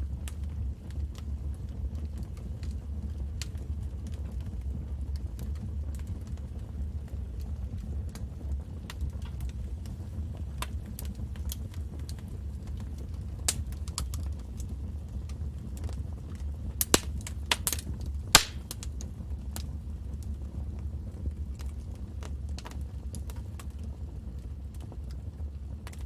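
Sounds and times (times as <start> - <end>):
low steady rumble: 0.0 - 26.0
wood fire crackling: 0.0 - 26.0.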